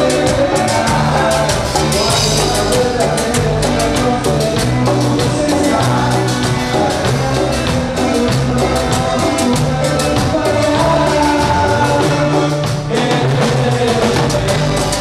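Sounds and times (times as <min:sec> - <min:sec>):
bass line: 0:00.0 - 0:15.0
drum kit: 0:00.0 - 0:15.0
latin dance band music: 0:00.0 - 0:15.0
person singing: 0:00.0 - 0:15.0.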